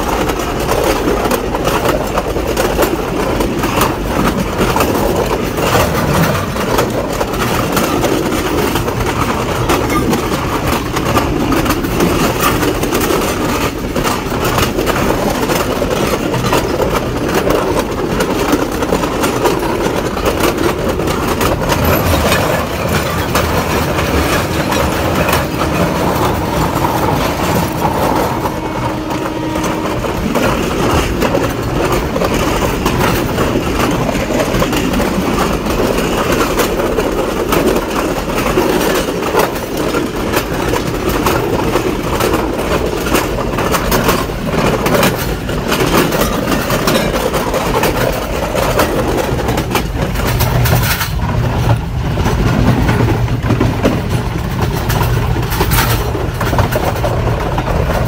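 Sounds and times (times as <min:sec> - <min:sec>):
train wheels rumbling: 0:00.0 - 0:58.0
wheels clicking over rail joints: 0:00.0 - 0:58.0.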